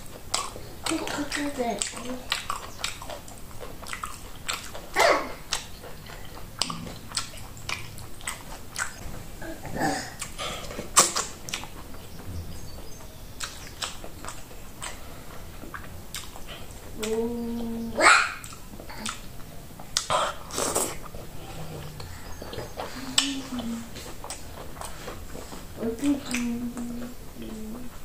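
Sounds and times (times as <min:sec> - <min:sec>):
mouth clicks and smacks: 0:00.0 - 0:09.1, 0:10.1 - 0:17.2, 0:18.4 - 0:28.0
chewing food: 0:00.0 - 0:28.0.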